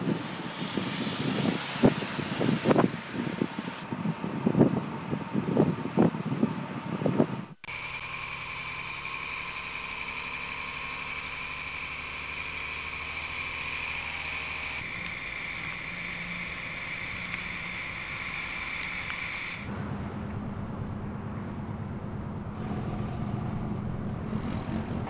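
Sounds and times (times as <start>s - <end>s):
constant high whine: 0.0s - 22.6s
truck engine drone: 0.0s - 25.0s.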